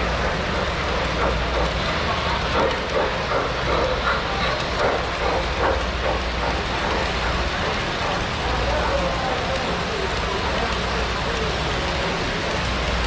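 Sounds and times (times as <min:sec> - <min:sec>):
crowd chatter in a hall: 0:00.0 - 0:13.0
model train rumbling: 0:00.0 - 0:13.0.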